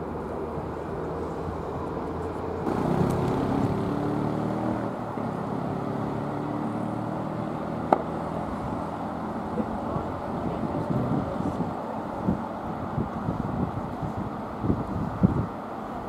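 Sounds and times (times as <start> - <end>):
passing vehicle engine rumble: 0.0 - 16.0.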